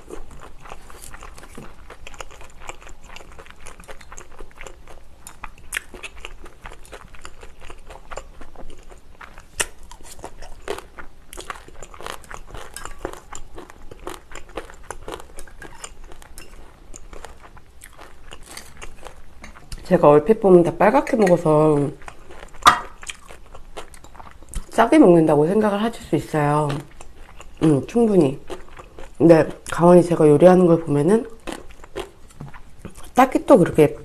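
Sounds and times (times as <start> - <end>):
crunchy chewing: 0.0 - 19.9, 21.9 - 24.8, 26.7 - 29.8, 31.3 - 33.2.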